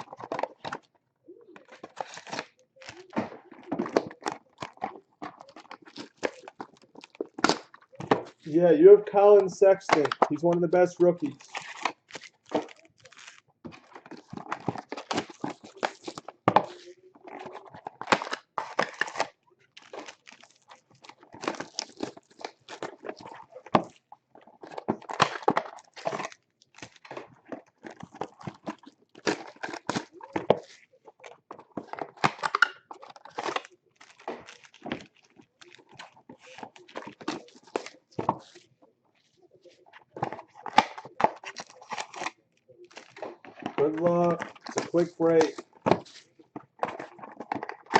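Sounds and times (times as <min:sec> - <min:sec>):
cards being handled: 0:00.0 - 0:47.9
wrapper tearing and crinkling: 0:01.6 - 0:08.6, 0:09.3 - 0:47.9.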